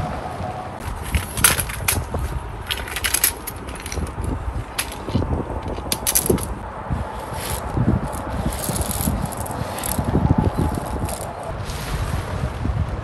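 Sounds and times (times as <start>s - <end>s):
tent poles clicking and knocking: 0.8s - 11.5s
tent fabric rustling on gravel: 0.8s - 12.3s.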